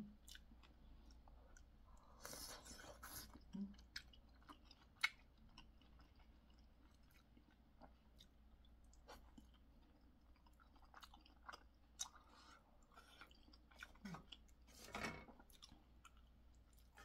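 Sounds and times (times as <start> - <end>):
close-up chewing: 0.2 - 14.7, 15.3 - 17.0.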